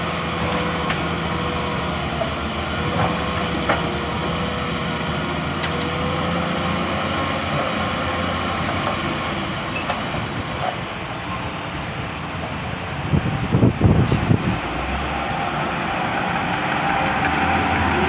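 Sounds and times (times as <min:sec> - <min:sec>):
diesel machinery engine: 0:00.0 - 0:18.0.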